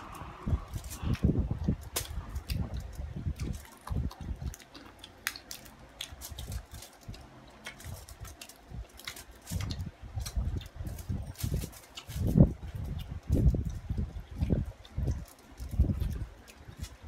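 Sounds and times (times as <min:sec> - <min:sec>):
people chewing and crunching food: 0:00.0 - 0:17.0.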